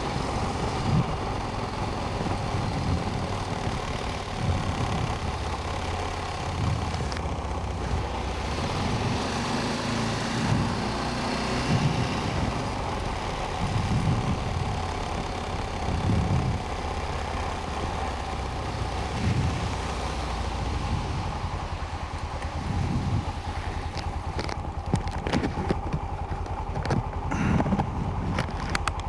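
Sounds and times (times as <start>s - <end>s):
quad engine running: 0.0s - 29.0s.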